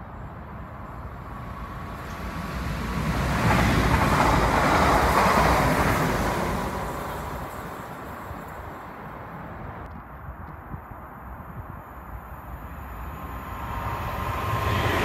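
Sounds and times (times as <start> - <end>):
train passing at speed: 0.0 - 9.9, 11.9 - 15.0.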